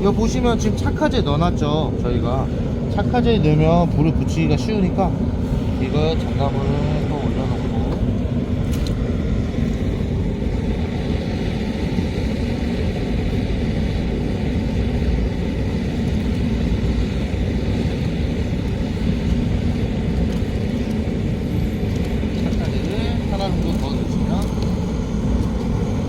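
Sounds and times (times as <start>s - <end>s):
low rumbling background noise: 0.0s - 26.0s.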